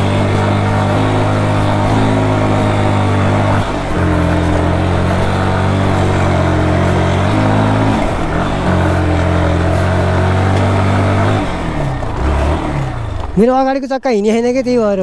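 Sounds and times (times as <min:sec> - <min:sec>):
motorcycle engine running hard: 0:00.0 - 0:14.8.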